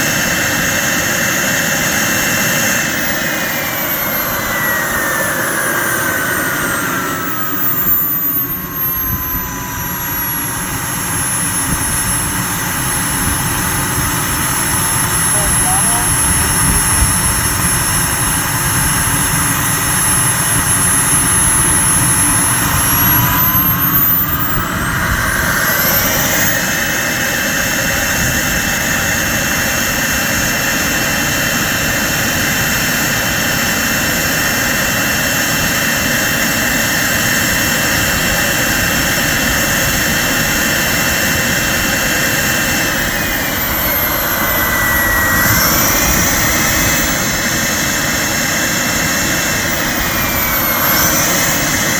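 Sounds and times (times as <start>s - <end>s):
jet turbine whining: 0.0s - 51.9s
rushing exhaust noise: 0.0s - 51.9s.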